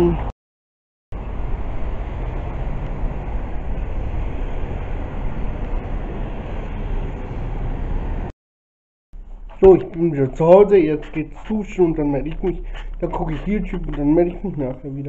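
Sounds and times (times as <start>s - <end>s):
road traffic rumble: 1.1s - 8.3s, 9.2s - 15.0s.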